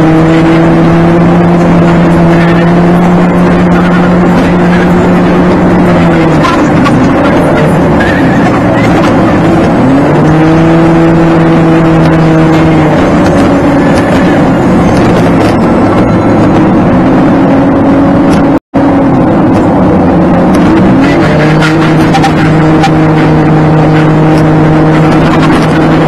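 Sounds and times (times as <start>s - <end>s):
car engine hum: 0.0s - 26.0s
road noise inside car: 0.0s - 26.0s.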